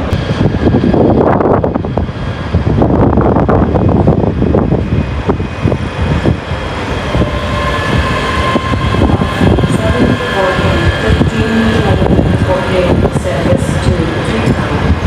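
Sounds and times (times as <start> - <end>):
train wheels rumbling and knocking: 0.0 - 15.0.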